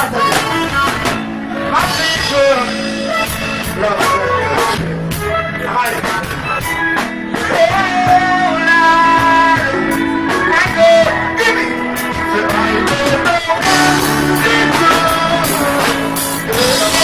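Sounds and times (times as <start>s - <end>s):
person singing: 0.0s - 17.0s
reggae music through sound system: 0.0s - 17.0s.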